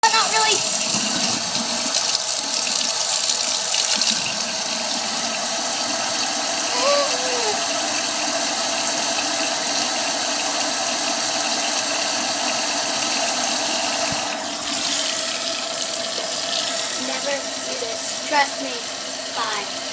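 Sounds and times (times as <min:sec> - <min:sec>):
water running from a tap: 0:00.0 - 0:19.9.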